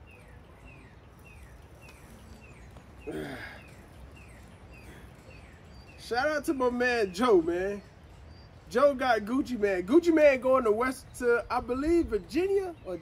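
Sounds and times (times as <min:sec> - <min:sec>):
bird chirping: 0:00.0 - 0:13.0
faint outdoor background: 0:00.0 - 0:13.0.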